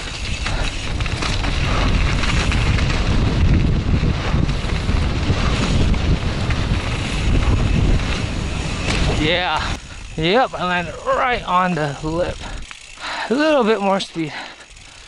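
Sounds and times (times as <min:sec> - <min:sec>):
wind buffeting microphone: 0:00.0 - 0:13.1
bike tyres rumbling on dirt: 0:00.0 - 0:15.0.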